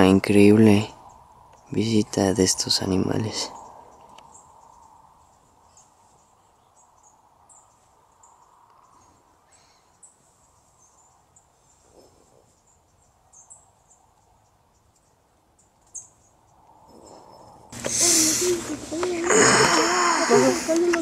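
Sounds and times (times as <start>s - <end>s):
crickets chirping: 0.0s - 21.0s
quiet hiss: 0.0s - 21.0s.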